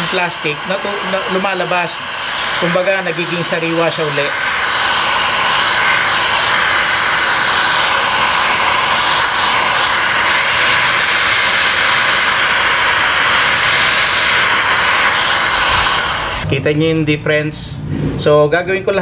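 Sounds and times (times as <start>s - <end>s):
hot air gun blowing: 0.0s - 16.5s.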